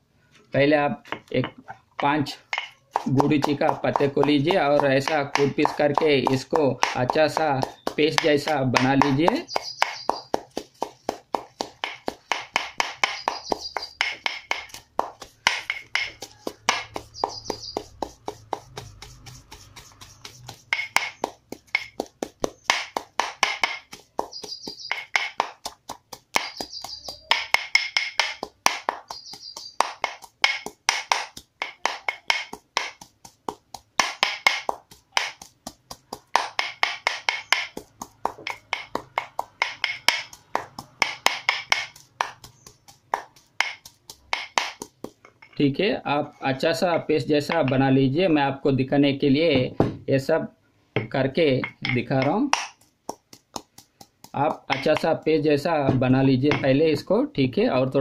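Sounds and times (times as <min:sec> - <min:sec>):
leaves pounded into paste: 0:01.0 - 0:50.3, 0:51.0 - 0:58.0.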